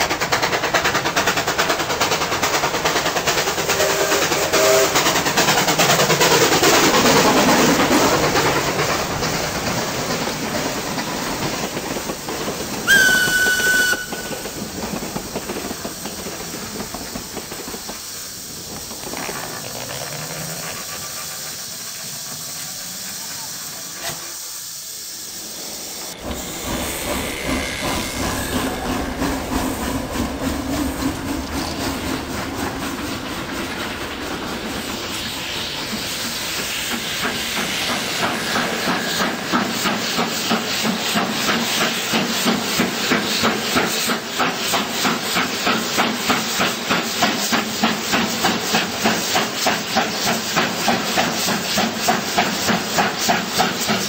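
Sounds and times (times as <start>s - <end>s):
locomotive exhaust chuffs: 0.0s - 54.0s
steam hissing: 0.0s - 54.0s.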